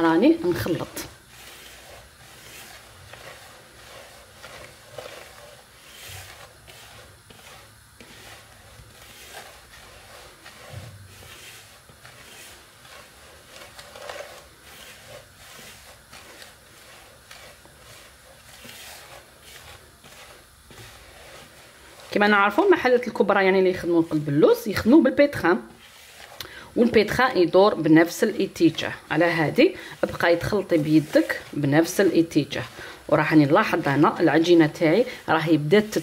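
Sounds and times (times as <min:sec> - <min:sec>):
gritty rustle of grains in bowl: 0:00.0 - 0:36.0.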